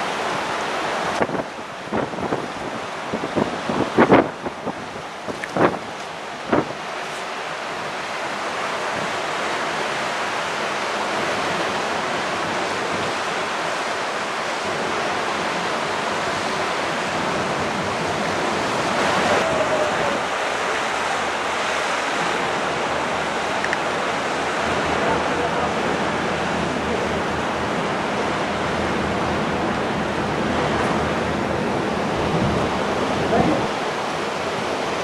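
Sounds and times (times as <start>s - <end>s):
sea water rushing along ship hull: 0.0s - 35.0s
wind over open deck: 0.0s - 35.0s.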